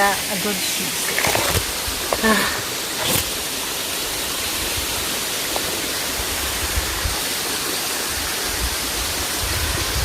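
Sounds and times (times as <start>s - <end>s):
waterfall hissing: 0.0s - 10.0s.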